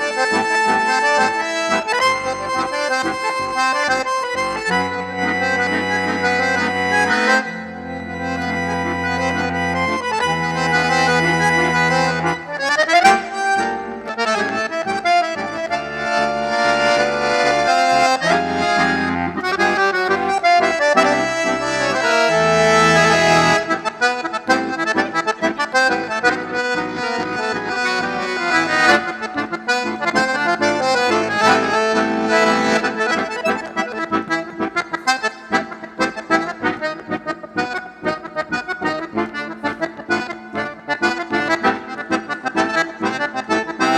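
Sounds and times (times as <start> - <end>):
accordion playing a tune: 0.0 - 43.9.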